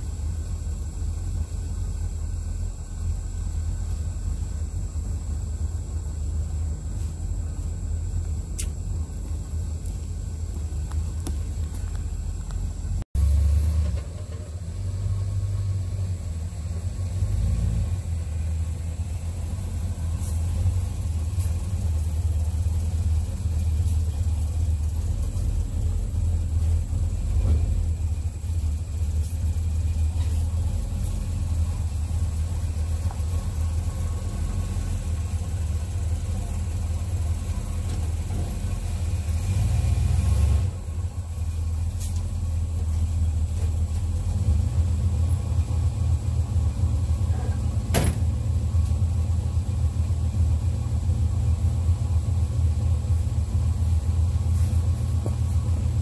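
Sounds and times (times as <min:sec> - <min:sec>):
pickup truck engine running: 0:00.0 - 0:56.0.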